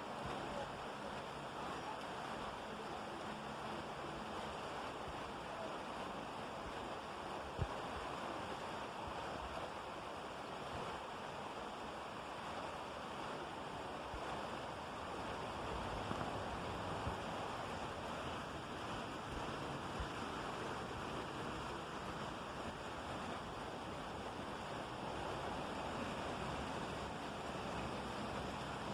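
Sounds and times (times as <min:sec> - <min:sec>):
steady rain hiss: 0:00.0 - 0:28.9.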